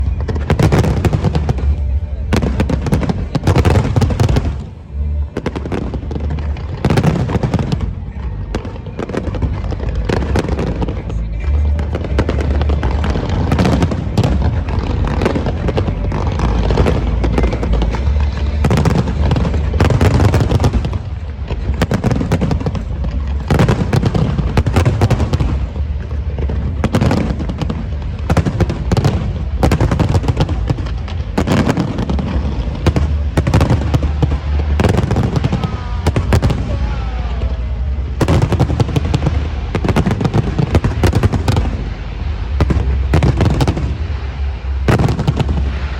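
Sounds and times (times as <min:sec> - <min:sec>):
deep rumble: 0:00.0 - 0:45.9
fireworks bangs and crackles: 0:00.0 - 0:45.9
whistling fireworks: 0:00.0 - 0:45.9.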